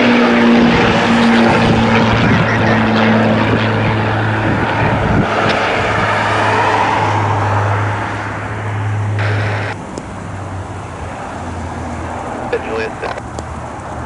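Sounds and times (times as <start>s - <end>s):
rushing noise: 0.0s - 14.0s
vehicle engine drone: 0.0s - 14.0s.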